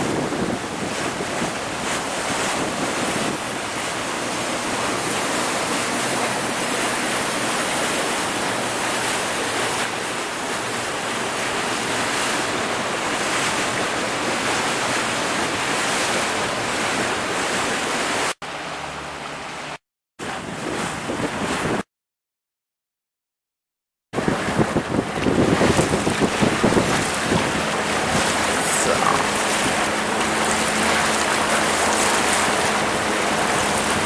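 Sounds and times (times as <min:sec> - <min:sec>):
wind and water rushing: 0:00.0 - 0:21.9, 0:24.1 - 0:34.0.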